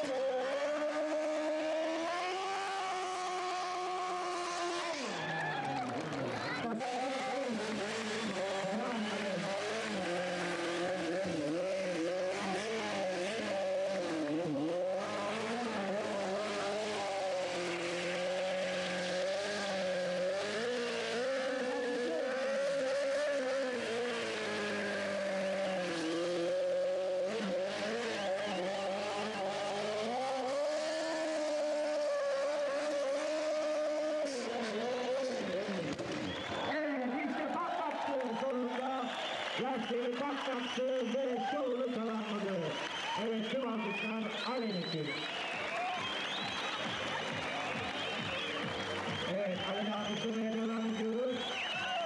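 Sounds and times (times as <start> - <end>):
motorcycle engine revving high: 0.0 - 52.0.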